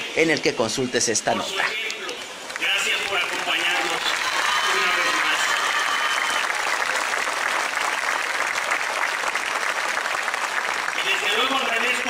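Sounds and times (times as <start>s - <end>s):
crowd applauding: 2.2s - 12.0s.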